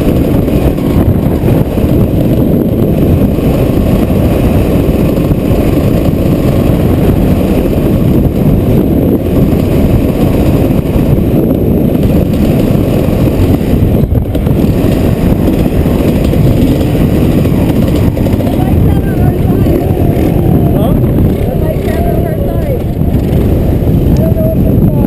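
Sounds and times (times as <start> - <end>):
motorbike engine running: 0.0 - 25.0
wind buffeting microphone: 0.0 - 25.0.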